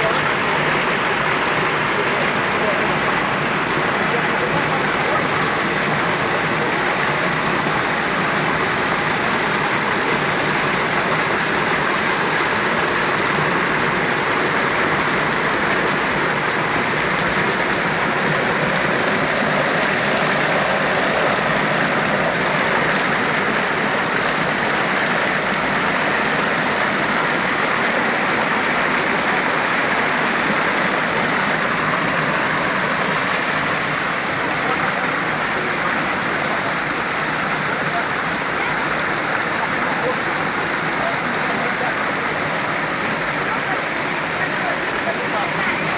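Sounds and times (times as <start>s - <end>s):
waterfall pouring onto rocks: 0.0s - 45.9s.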